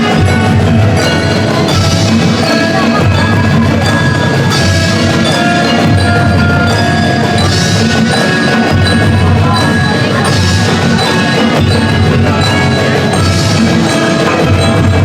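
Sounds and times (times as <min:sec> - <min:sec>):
mallet percussion melody: 0:00.0 - 0:15.0
marching band drums: 0:00.0 - 0:15.0.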